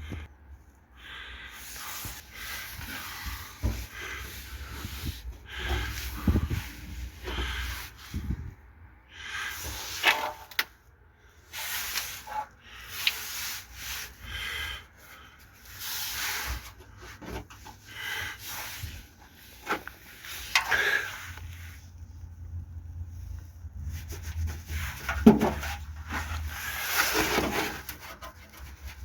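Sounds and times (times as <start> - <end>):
rubbing and scraping: 1.5 - 8.6, 11.4 - 29.0.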